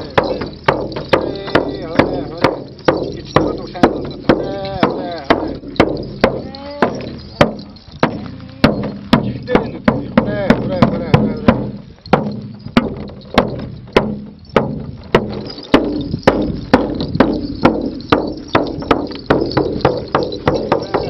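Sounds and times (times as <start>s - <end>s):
frame drum beaten: 0.0s - 21.0s.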